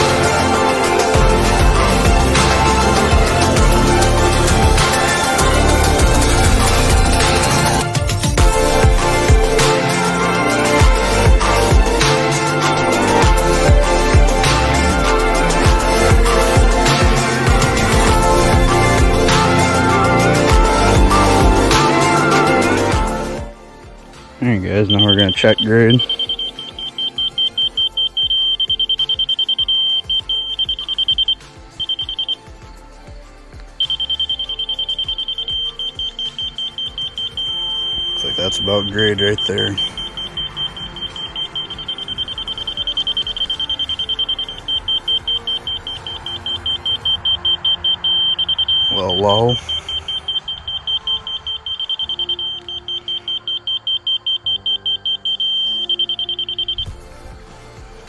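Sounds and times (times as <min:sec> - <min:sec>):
rapid electronic beeping: 0:00.0 - 0:23.1, 0:24.8 - 0:32.6, 0:33.8 - 0:57.0.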